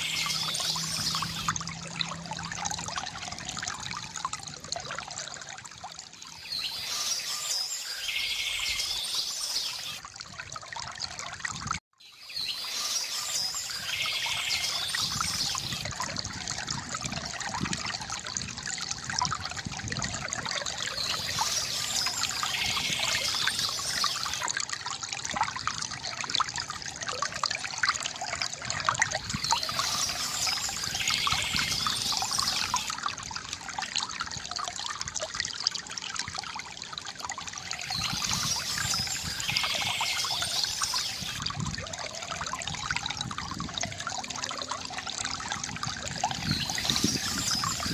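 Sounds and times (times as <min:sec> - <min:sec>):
water trickling from a fountain: 0:00.0 - 0:47.9.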